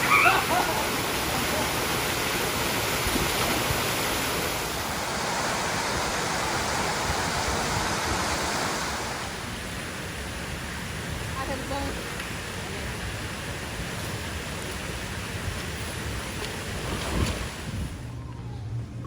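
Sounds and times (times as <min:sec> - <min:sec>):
water rushing: 0:00.0 - 0:18.3.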